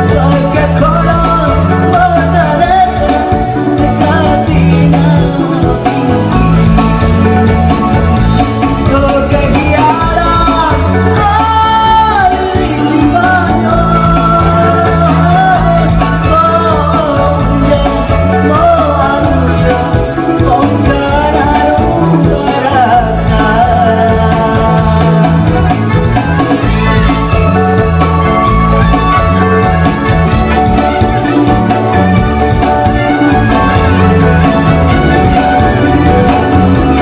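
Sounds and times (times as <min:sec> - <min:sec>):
guitar: 0:00.0 - 0:37.0
steady bass line: 0:00.0 - 0:37.0.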